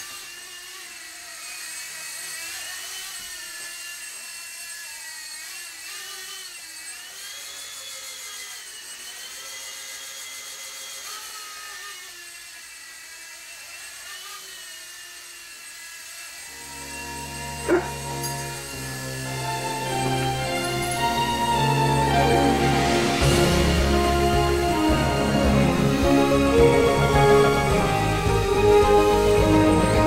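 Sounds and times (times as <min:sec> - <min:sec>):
toy helicopter motor whine: 0:00.0 - 0:30.0.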